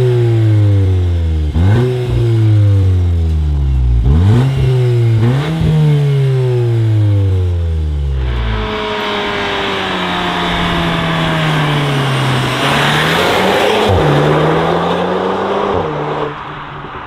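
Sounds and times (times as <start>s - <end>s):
turbocharged car engine pulling: 0.0s - 17.0s.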